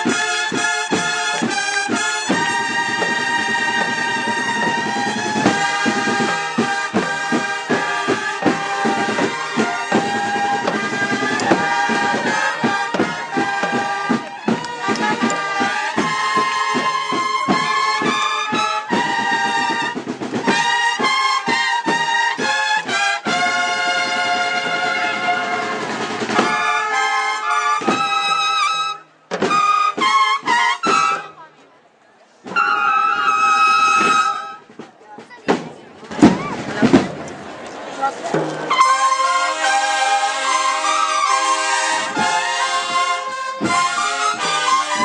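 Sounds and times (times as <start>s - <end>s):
regular drum beat: 0.0s - 28.4s, 33.8s - 45.0s
brass band march: 0.0s - 31.5s, 32.4s - 45.0s.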